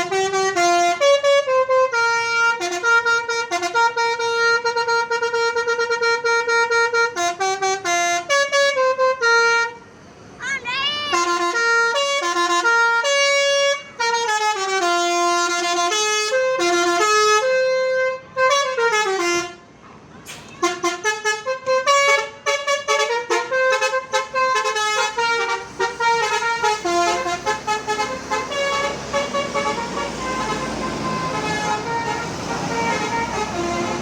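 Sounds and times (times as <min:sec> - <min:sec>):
musical bus air horn tune: 0:00.0 - 0:09.9, 0:10.9 - 0:34.0.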